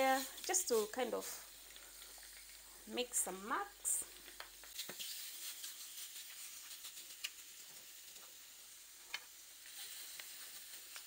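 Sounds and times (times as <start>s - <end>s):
chicken sizzling on griddle: 0.0s - 11.0s.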